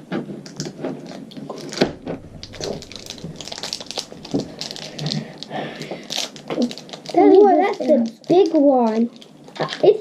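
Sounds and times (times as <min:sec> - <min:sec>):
plastic packaging tearing and crinkling: 0:00.5 - 0:10.0.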